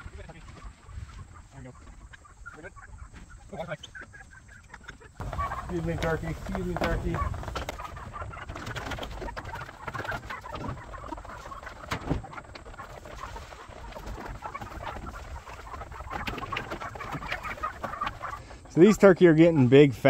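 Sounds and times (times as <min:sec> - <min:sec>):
turkeys clucking and chirping: 0:00.0 - 0:20.0.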